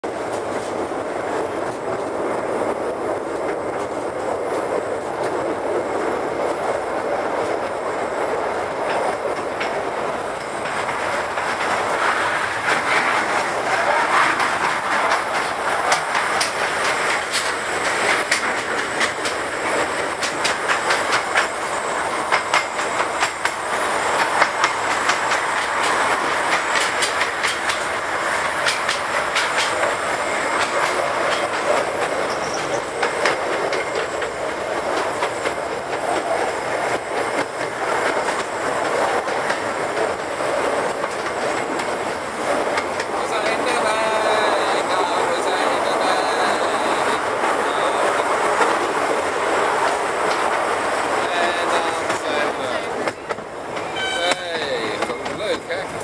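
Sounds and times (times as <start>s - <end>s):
train rumbling along track: 0.0s - 56.0s
wheels clacking over rail joints: 0.0s - 56.0s.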